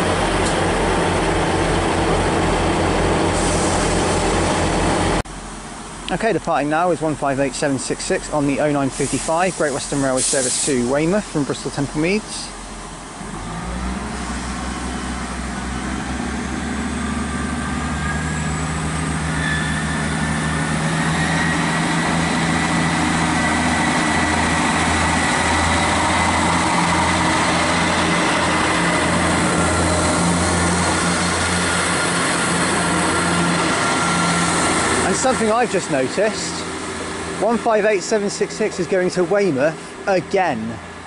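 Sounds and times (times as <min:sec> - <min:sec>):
diesel train engine pulling away: 0:00.0 - 0:41.0.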